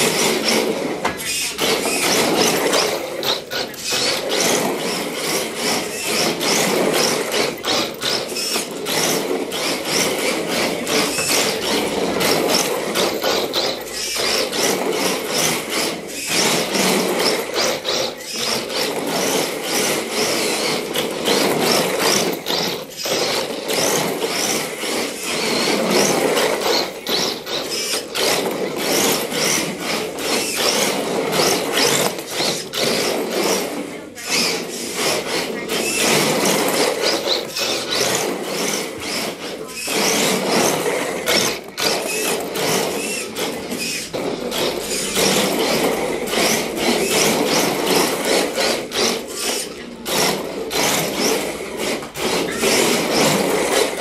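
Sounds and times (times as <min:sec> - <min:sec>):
toy car motor running: 0:00.0 - 0:54.0
tyres scrubbing on wood: 0:00.0 - 0:54.0.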